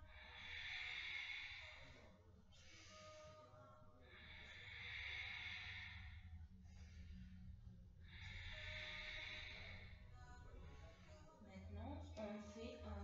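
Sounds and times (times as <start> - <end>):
woman breathing through throat: 0.0 - 11.3
faint room hum: 0.0 - 13.0.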